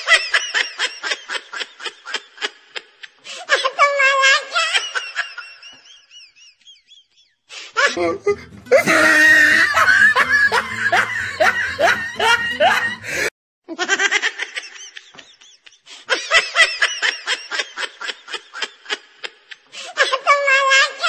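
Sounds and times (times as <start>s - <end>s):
laughter in rapid bursts: 0.0s - 21.0s.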